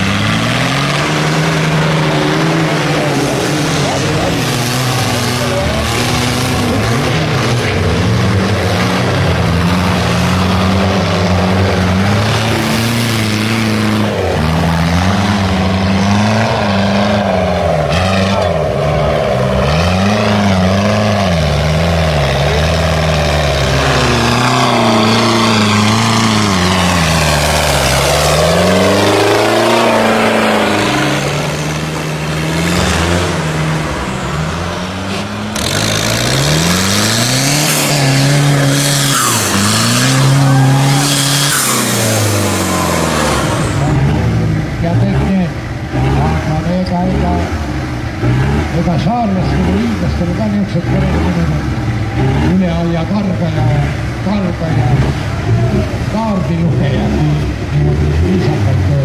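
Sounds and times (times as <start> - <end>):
off-road engines revving: 0.0 - 59.0.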